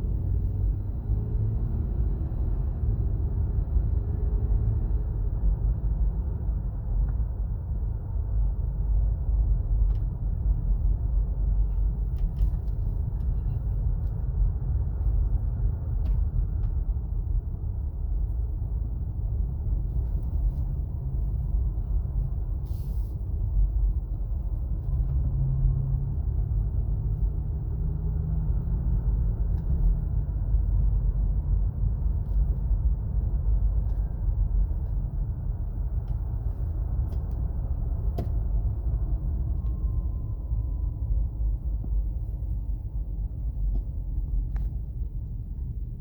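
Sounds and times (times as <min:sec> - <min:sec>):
faint car whine: 0:00.0 - 0:46.0
road and tyre rumble: 0:00.0 - 0:46.0.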